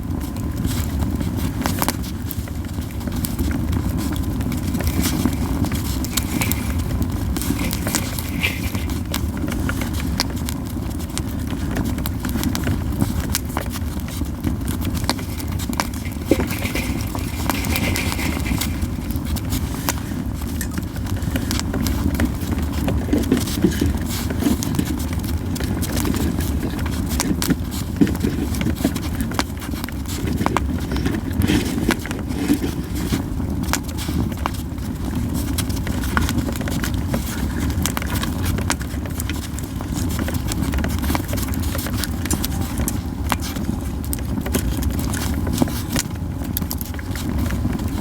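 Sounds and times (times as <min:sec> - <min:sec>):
campfire crackling and popping: 0:00.0 - 0:48.0
low fire rumble: 0:00.0 - 0:48.0.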